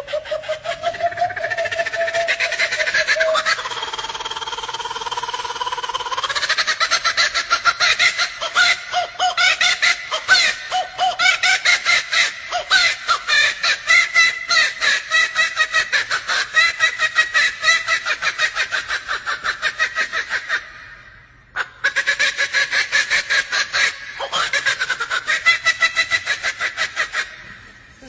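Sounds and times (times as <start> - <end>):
kookaburra laughing call: 0.0 - 27.6.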